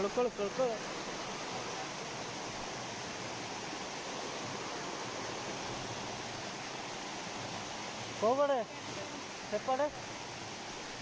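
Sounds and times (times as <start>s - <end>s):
small waterfall splashing: 0.0s - 11.0s.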